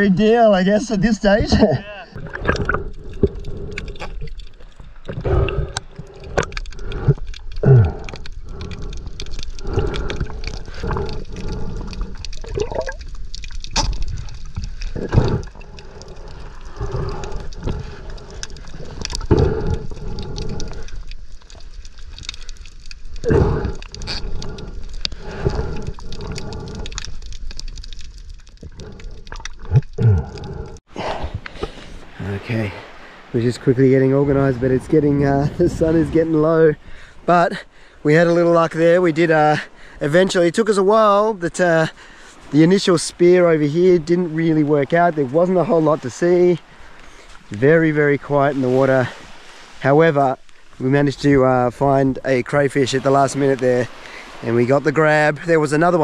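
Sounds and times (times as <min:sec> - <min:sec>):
water sloshing and gurgling: 0:00.0 - 0:56.0.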